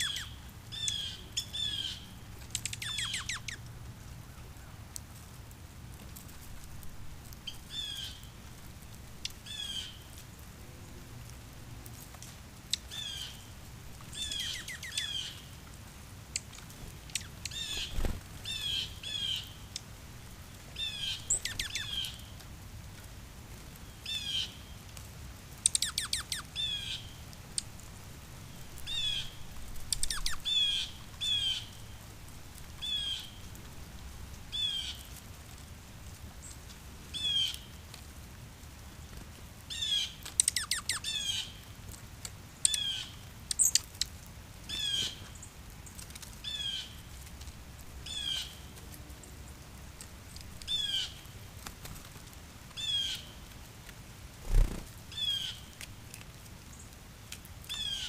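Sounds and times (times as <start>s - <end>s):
songbirds chirping: 0.0s - 38.0s, 38.8s - 58.0s.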